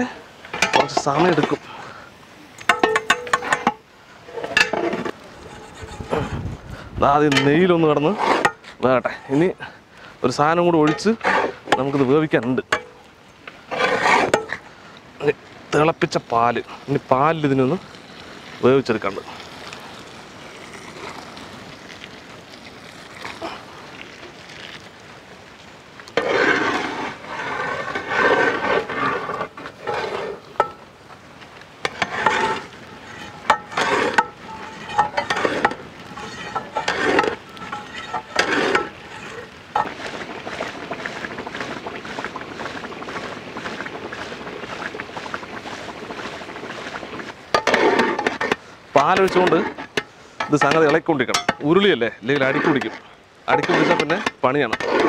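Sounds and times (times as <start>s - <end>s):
paddles scraping a metal pot: 0.0s - 1.9s, 2.5s - 19.8s, 26.0s - 30.9s, 31.7s - 55.0s.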